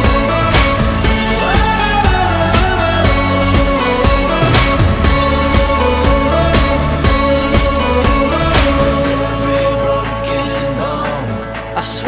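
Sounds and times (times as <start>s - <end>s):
song with low bass: 0.0s - 12.0s.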